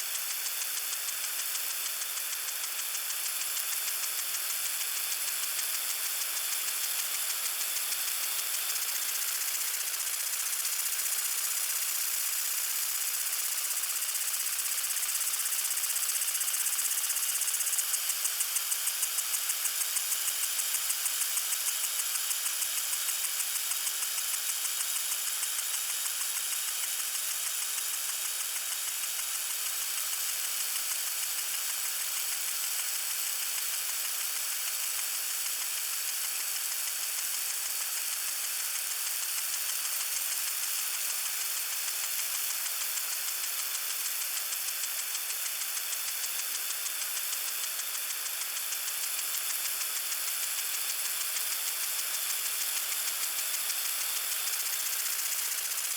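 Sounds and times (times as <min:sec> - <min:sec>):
lawn sprinkler spraying: 0:00.0 - 0:55.9.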